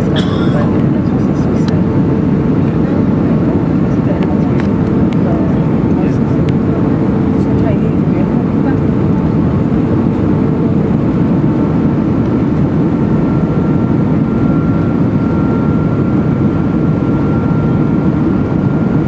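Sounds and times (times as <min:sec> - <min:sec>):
airplane cabin engine roar: 0:00.0 - 0:19.0.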